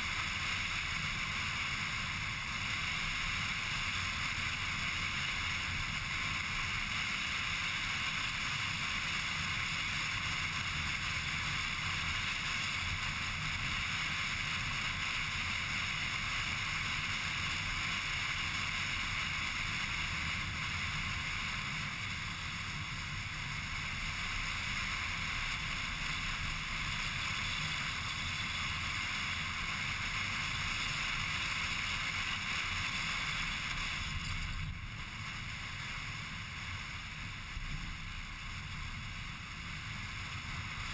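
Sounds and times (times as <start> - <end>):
car interior road and engine noise: 0.0 - 40.9.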